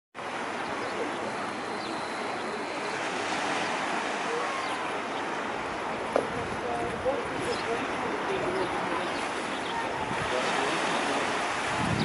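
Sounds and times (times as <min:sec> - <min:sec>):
sea surf washing in: 0:00.2 - 0:12.0.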